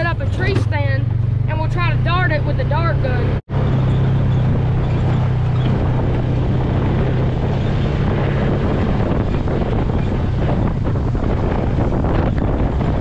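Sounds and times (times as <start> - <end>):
utility vehicle engine hum: 0.0 - 13.0
wind rumbling on microphone: 0.0 - 13.0.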